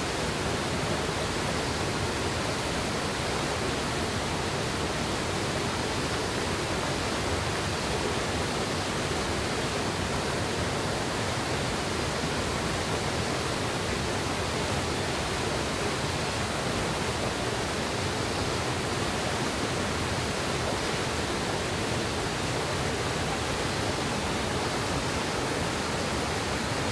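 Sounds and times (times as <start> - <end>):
river rushing over rocks: 0.0 - 26.9.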